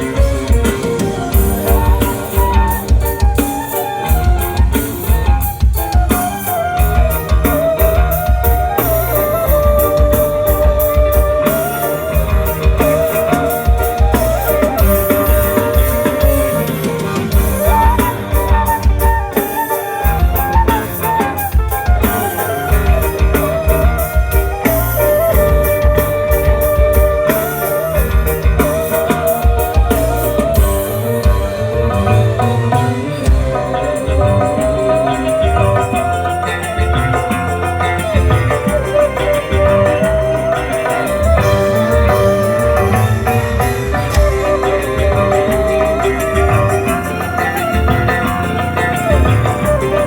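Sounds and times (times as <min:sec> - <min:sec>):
loud music through pa system: 0:00.0 - 0:50.0.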